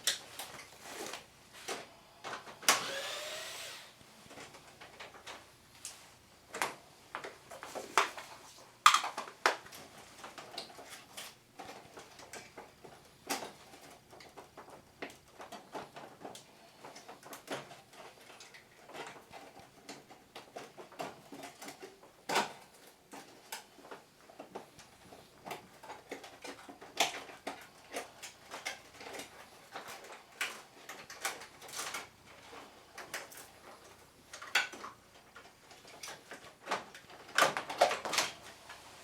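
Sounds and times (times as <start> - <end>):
plastic parts clicking and knocking: 6.5 - 38.5.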